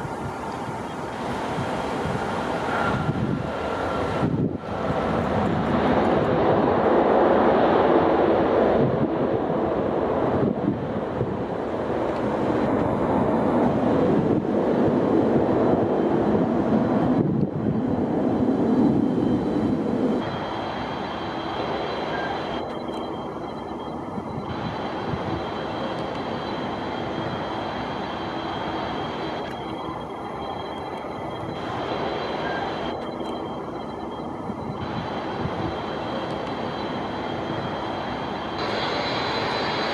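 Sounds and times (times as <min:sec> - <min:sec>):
high engine whine: 0:00.0 - 0:39.9
jet airliner engines rumbling: 0:00.0 - 0:39.9.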